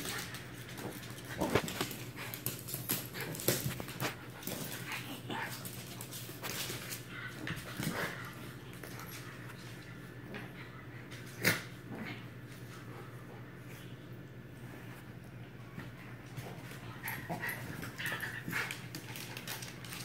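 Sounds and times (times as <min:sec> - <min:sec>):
paws scrabbling on wooden floor: 0:00.0 - 0:11.3, 0:14.7 - 0:20.0.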